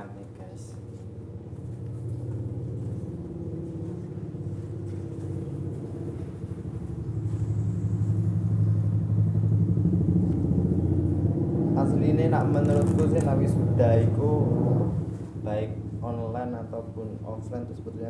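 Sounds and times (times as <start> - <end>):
engine running with pulsing hum: 0.0 - 18.0.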